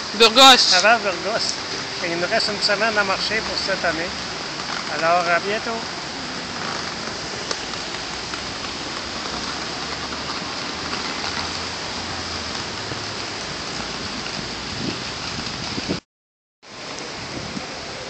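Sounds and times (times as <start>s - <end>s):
low traffic rumble: 0.0s - 16.0s
steady street hiss: 0.0s - 16.0s, 16.6s - 18.0s.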